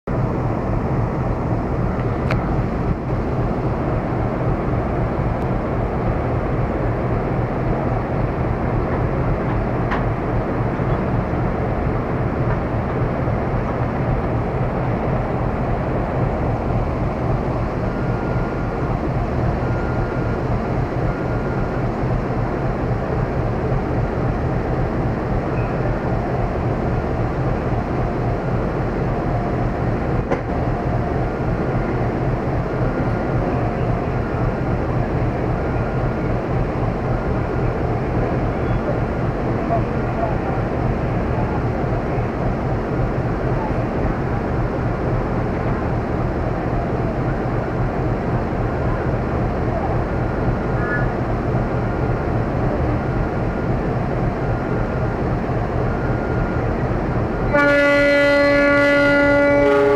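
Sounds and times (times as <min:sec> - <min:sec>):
train humming and rumbling: 0:00.0 - 0:59.9.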